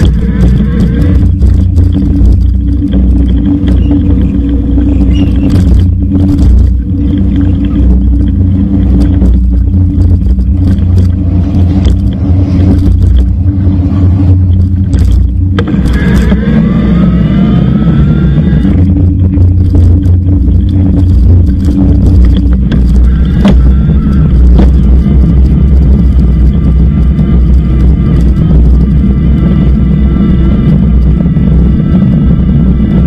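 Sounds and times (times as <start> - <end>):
electric motor whine rising: 0.0 - 33.0
road rumble: 0.0 - 33.0
wind buffeting: 0.0 - 33.0.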